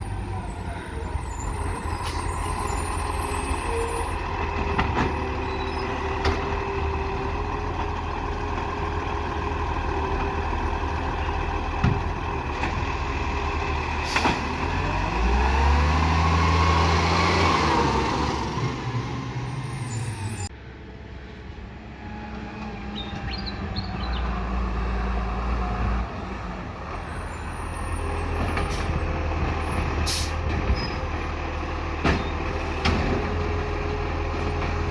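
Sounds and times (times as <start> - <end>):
garbage truck diesel engine: 0.0 - 34.9.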